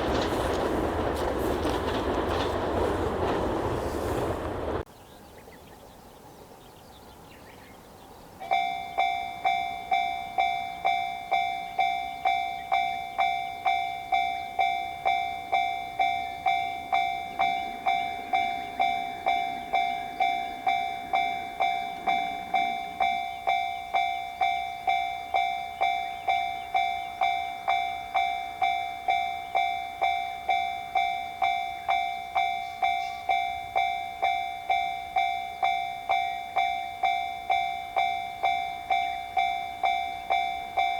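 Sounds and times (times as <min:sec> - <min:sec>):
level-crossing warning bell ringing: 0:00.0 - 0:03.7, 0:08.4 - 0:40.9.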